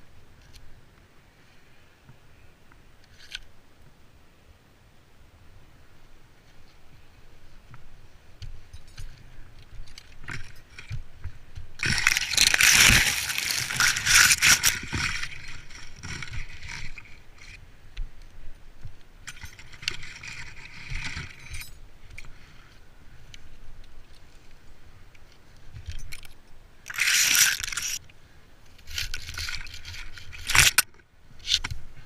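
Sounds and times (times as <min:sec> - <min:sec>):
branches and leaves rustling: 0:05.4 - 0:32.0.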